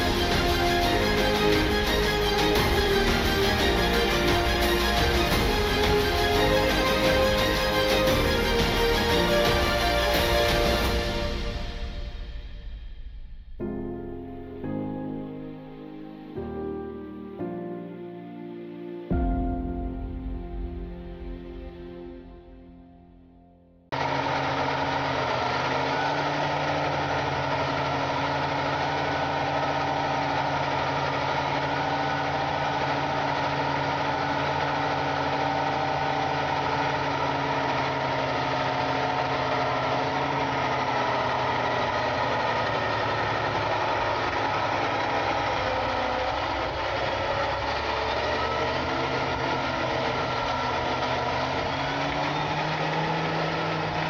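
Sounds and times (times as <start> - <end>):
tractor diesel engine droning: 0.0 - 18.1, 19.1 - 54.0.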